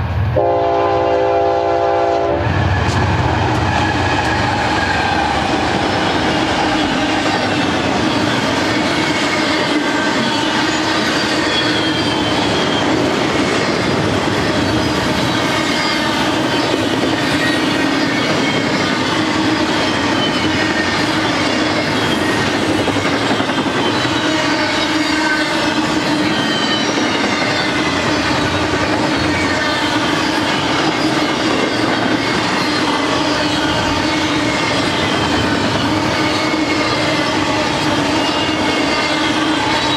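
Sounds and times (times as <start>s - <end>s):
train wheels clattering on rails: 2.4s - 39.9s
wheels squealing: 2.4s - 39.9s.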